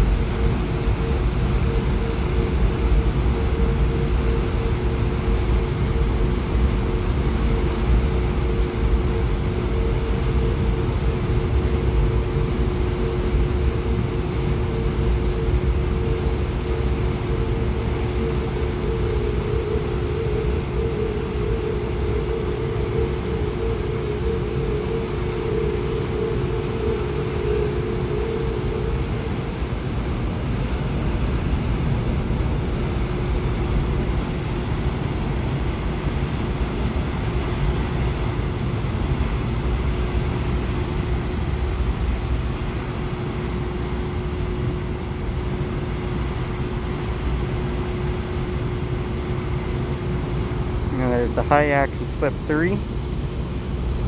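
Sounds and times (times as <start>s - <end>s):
broad rushing noise: 0.0s - 54.0s
steady hum: 0.0s - 54.0s.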